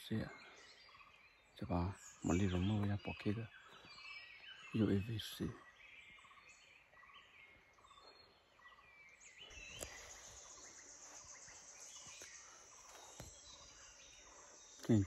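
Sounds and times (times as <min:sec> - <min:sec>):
small bird chirps: 0:00.0 - 0:15.0.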